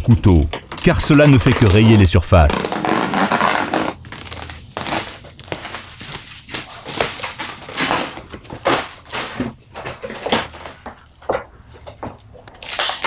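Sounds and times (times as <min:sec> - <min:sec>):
plastic film and cardboard tearing: 0:00.2 - 0:10.7, 0:12.6 - 0:13.0.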